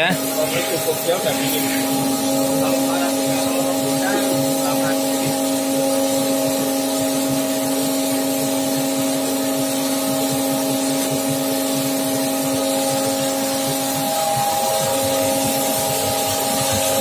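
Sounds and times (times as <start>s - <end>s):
cooling fan rushing air: 0.0s - 17.0s
motor hum: 0.0s - 17.0s.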